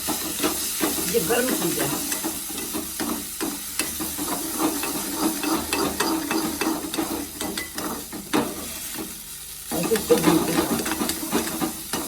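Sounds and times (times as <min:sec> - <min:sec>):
spoon scraping a pan: 0:00.0 - 0:09.1, 0:09.7 - 0:12.0
ginger sizzling in oil: 0:00.0 - 0:12.0.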